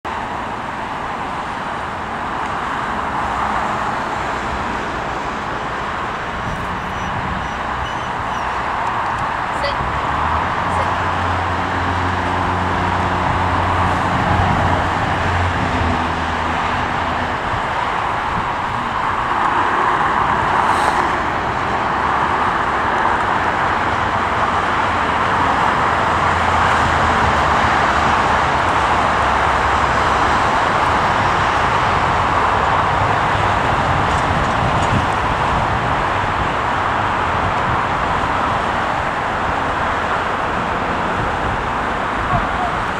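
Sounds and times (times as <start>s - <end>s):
roar of traffic: 0.0s - 42.9s.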